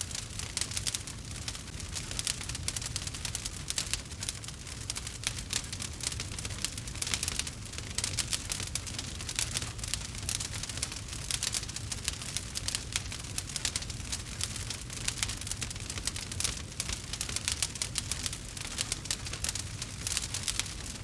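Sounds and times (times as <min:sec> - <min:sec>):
logs crackling in fireplace: 0:00.0 - 0:21.0
low constant rumble: 0:00.0 - 0:21.0.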